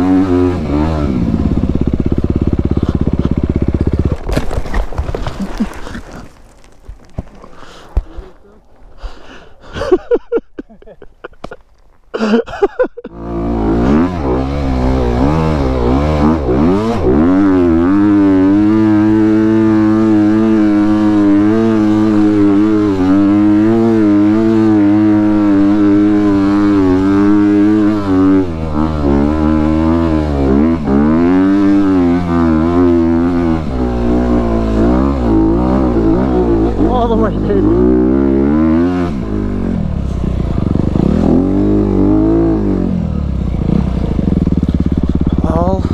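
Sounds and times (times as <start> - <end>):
dirt bike engine revving: 0.0 - 6.2, 12.2 - 45.9.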